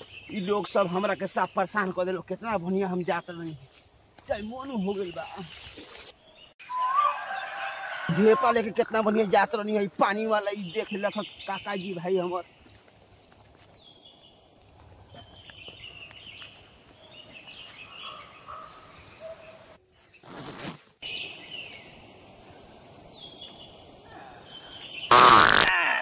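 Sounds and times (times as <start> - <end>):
birds chirping: 0.0 - 25.8
outdoor background noise: 0.0 - 26.0.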